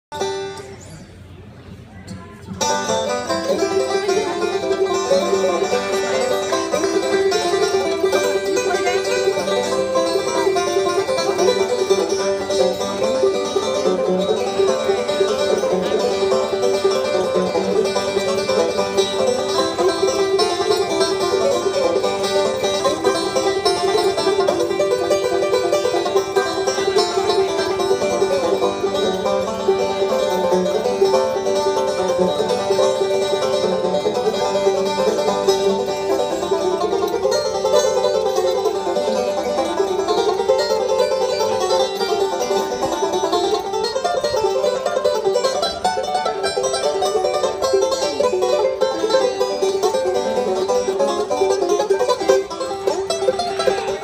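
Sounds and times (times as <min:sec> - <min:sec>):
banjos playing bluegrass: 0:00.1 - 0:54.0.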